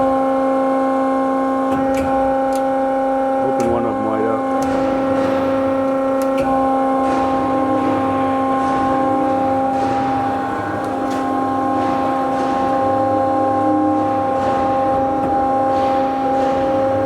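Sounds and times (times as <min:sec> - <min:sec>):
bandsaw motor hum and whine: 0:00.0 - 0:17.0.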